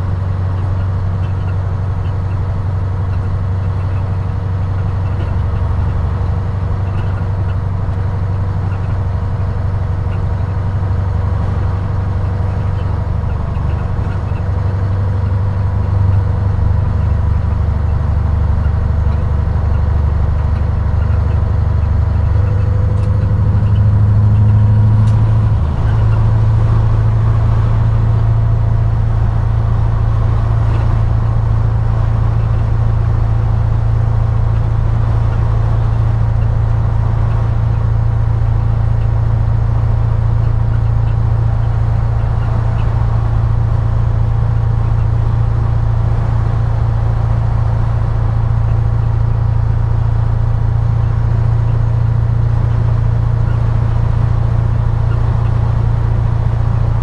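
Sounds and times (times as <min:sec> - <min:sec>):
truck diesel engine droning: 0:00.0 - 0:57.0.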